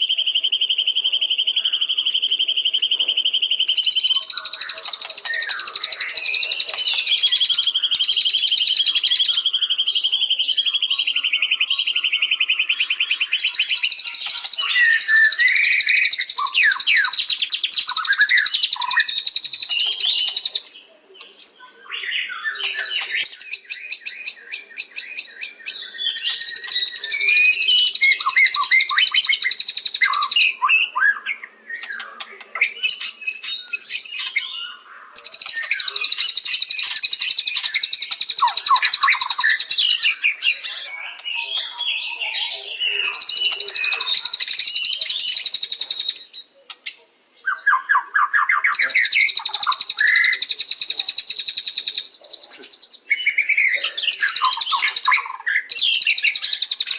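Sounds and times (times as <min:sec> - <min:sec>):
bird whistling and chattering: 0:00.0 - 0:56.9.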